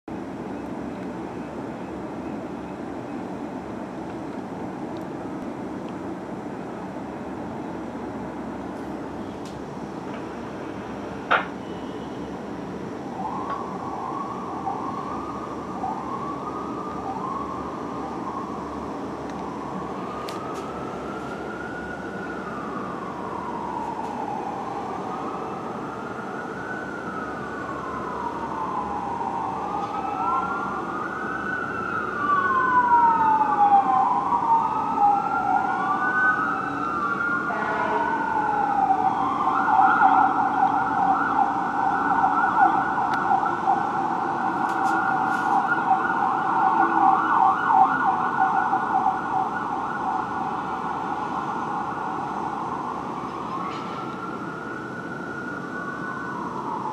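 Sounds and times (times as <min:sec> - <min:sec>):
fire truck sirens wailing: 0:00.1 - 0:56.9.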